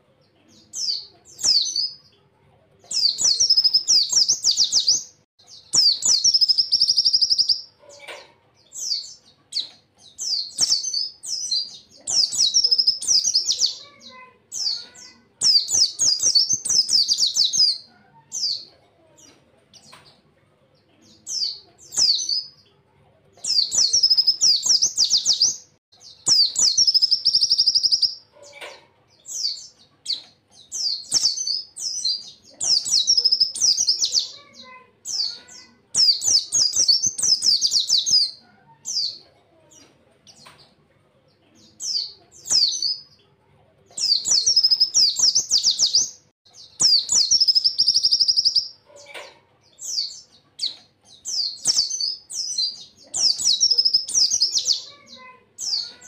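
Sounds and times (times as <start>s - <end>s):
bird twittering song: 0.0s - 22.8s, 23.4s - 40.8s, 43.9s - 56.0s.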